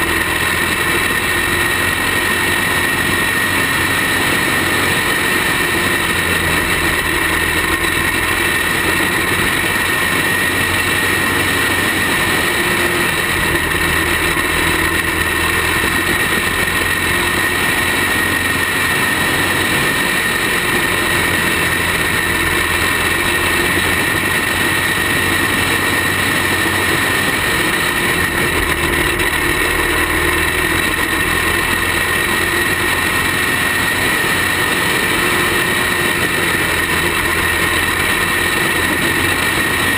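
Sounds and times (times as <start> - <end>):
kart engine high whine: 0.0 - 39.9.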